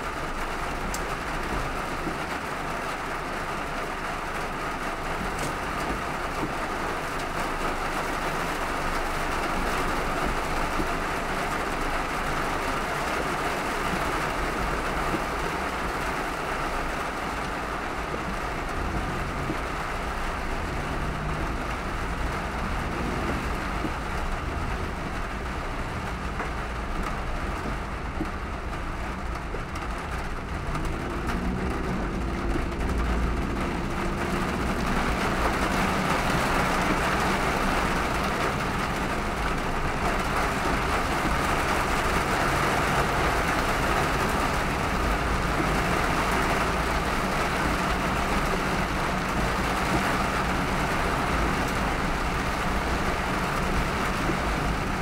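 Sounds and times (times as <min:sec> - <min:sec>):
heavy rain falling: 0:00.0 - 0:55.0
traffic and road rumble: 0:00.0 - 0:55.0.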